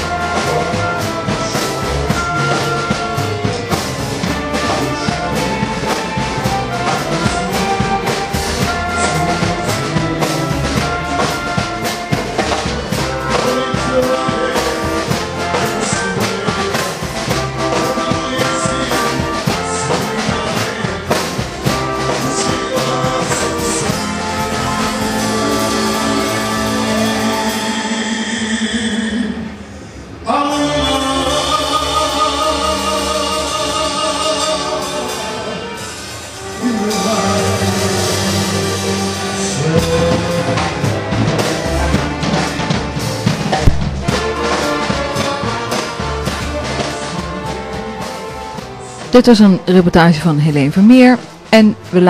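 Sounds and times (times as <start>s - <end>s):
youth orchestra playing: 0.0s - 52.0s.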